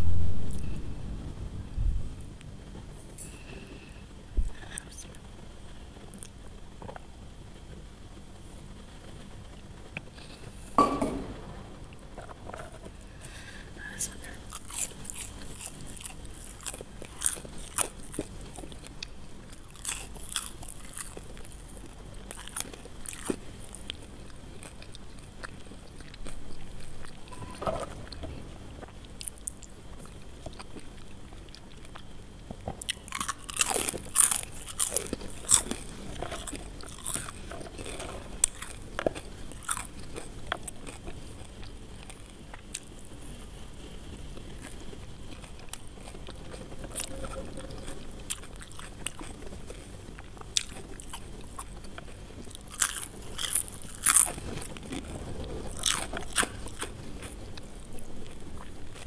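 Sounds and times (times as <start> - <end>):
crunchy fries being chewed: 4.5 - 7.2, 12.0 - 59.0.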